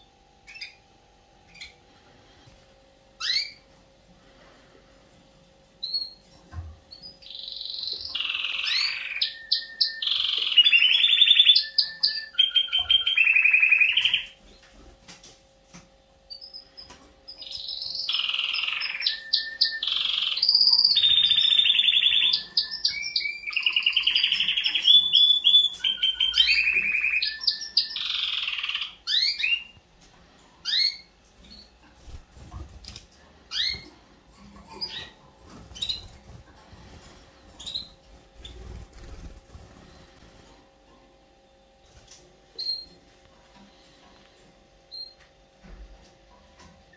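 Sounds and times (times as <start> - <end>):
canaries singing: 0.0 - 1.8, 3.2 - 3.7, 5.8 - 15.2, 16.2 - 44.1, 44.8 - 45.3.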